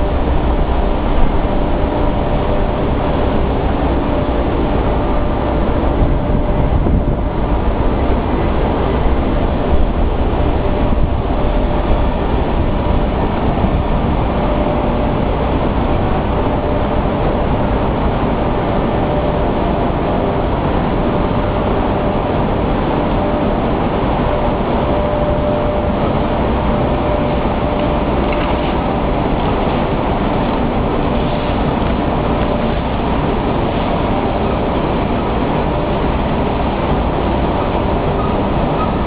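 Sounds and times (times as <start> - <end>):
faint constant hum: 0.0 - 39.0
industrial machinery rumble and hiss: 0.0 - 39.0.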